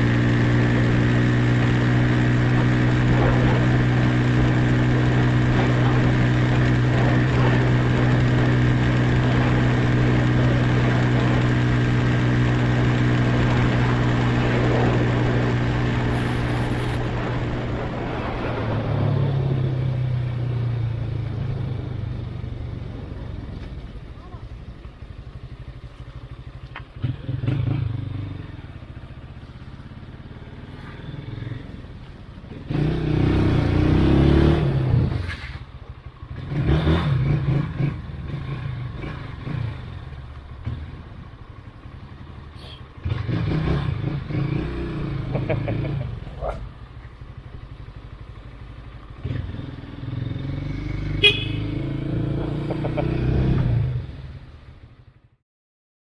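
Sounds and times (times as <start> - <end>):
motorcycle engine accelerating: 0.0 - 55.4.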